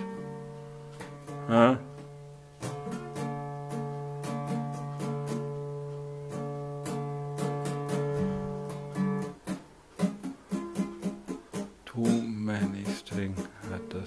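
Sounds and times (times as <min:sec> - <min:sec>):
acoustic guitar strummed and plucked: 0:00.0 - 0:14.0.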